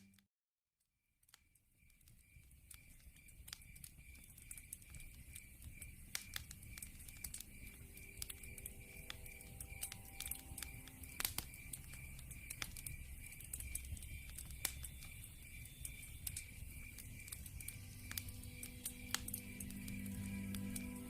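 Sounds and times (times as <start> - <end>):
wood fire crackling and popping: 1.3 - 21.0
crickets chirping: 1.8 - 21.0.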